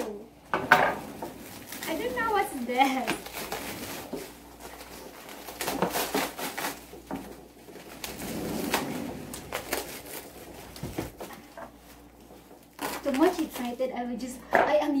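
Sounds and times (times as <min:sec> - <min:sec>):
plastic wrapping crinkling: 0:00.9 - 0:14.3.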